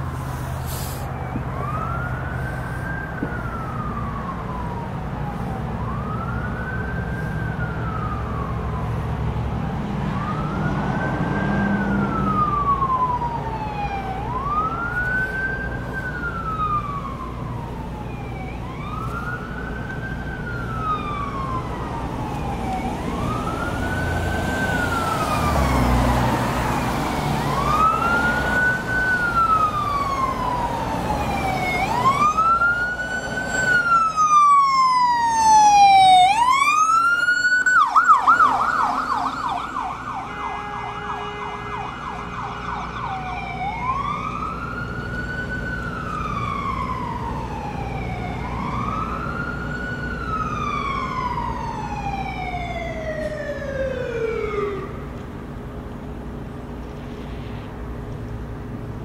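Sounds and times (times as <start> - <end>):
ambulance siren wailing: 0.0 - 56.3.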